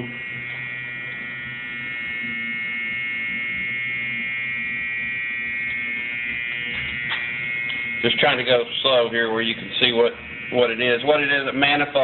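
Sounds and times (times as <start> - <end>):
machinery electric whine and hum: 0.0 - 12.0.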